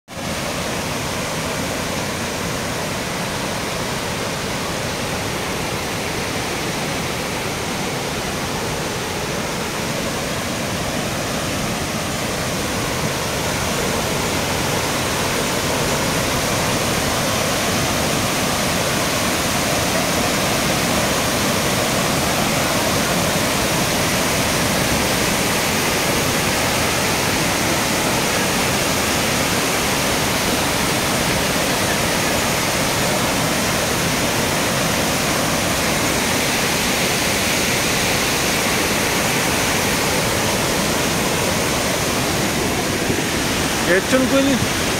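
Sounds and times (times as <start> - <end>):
floodwater rushing: 0.1 - 44.9.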